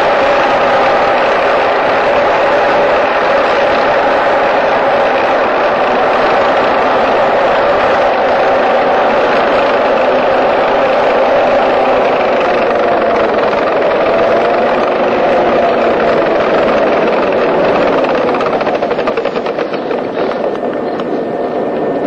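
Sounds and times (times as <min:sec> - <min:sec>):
fast rattling clatter of tracks: 0:00.0 - 0:22.0
tracked vehicle engine whining: 0:00.0 - 0:22.0.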